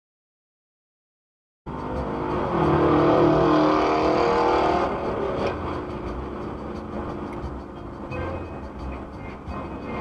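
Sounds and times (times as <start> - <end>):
car engine revving: 1.7 - 10.0.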